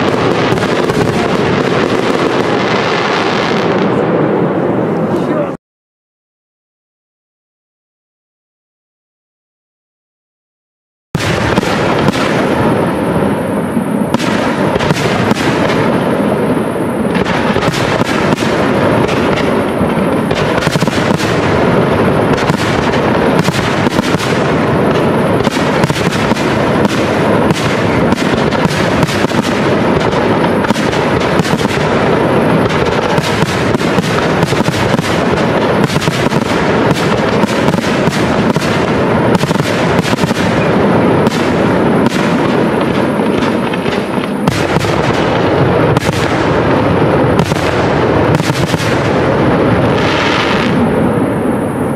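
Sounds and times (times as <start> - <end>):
fireworks bangs and crackling: 0.0 - 5.6, 11.2 - 51.9.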